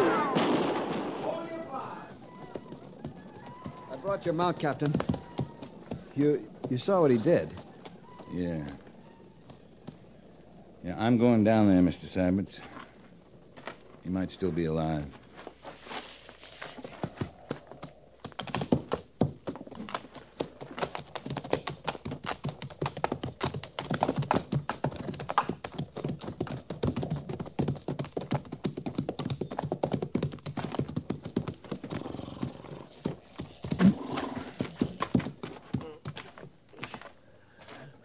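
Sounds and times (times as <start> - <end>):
galloping horse hoofbeats: 1.2 - 13.9, 14.6 - 37.2.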